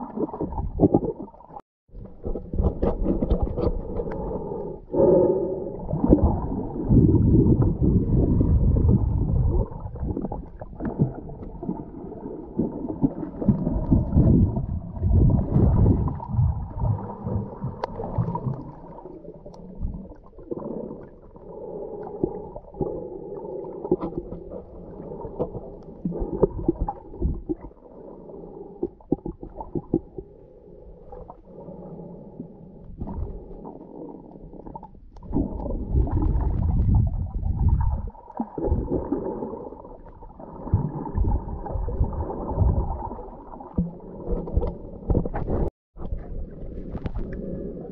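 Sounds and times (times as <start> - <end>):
underwater rumbling and gurgling: 0.0 - 47.9.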